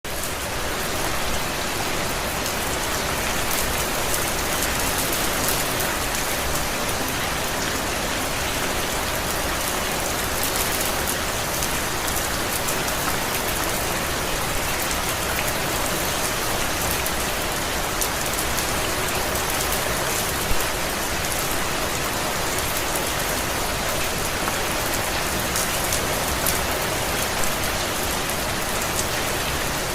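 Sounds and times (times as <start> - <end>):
steady rain falling: 0.1 - 29.9.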